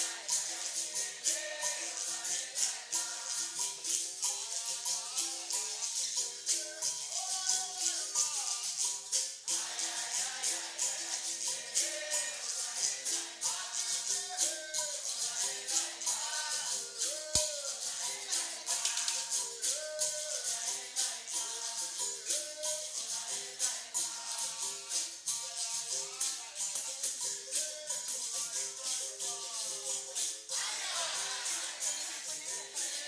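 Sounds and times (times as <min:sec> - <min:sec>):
pandeiro rhythm: 0:00.0 - 0:33.0
people singing: 0:00.0 - 0:33.0
shakers: 0:00.0 - 0:33.0.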